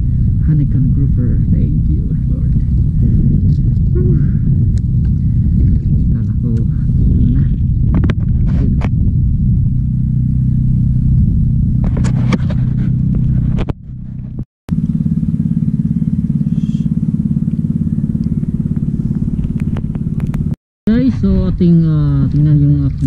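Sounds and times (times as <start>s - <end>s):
boat engine pulsing: 0.0s - 23.0s.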